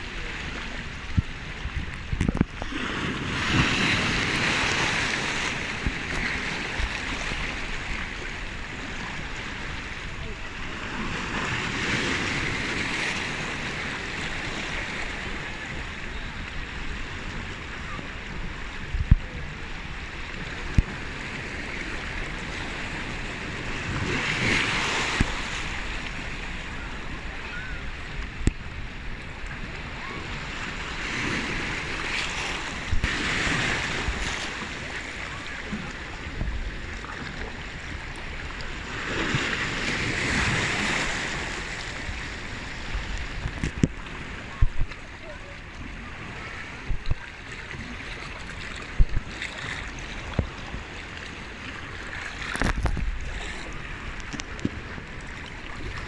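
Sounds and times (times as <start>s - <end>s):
small waves washing over rocks: 0.0s - 15.9s, 18.7s - 56.0s.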